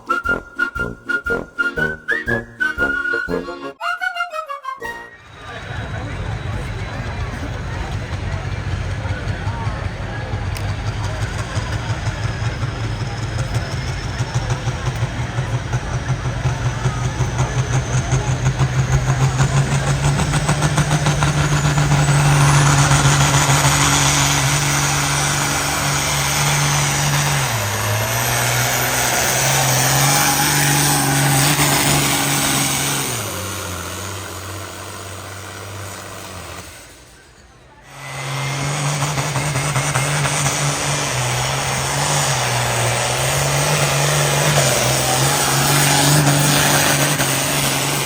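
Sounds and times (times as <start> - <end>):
engine running under load: 0.0 - 3.8, 5.1 - 48.0.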